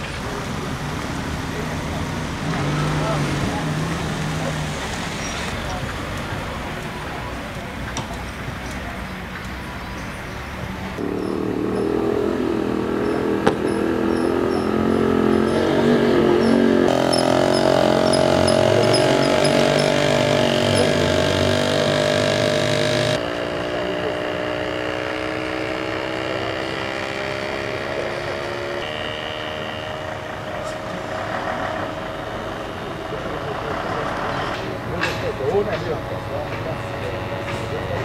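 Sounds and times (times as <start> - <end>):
vehicle engines running: 0.0 - 38.0.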